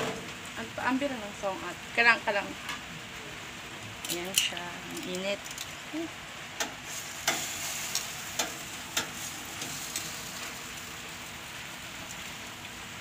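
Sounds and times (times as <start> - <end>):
ribs sizzling in hot pan: 0.2 - 13.0.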